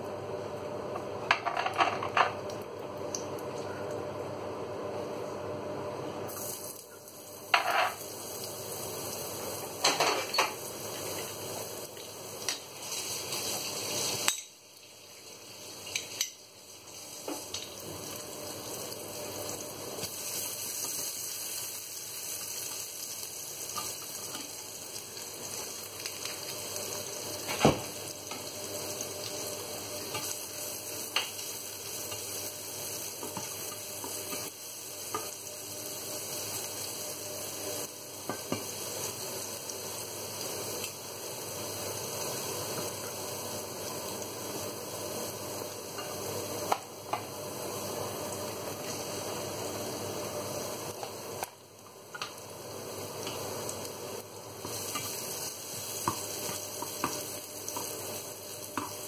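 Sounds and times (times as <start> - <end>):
ginger sizzling in oil: 6.3 - 59.0.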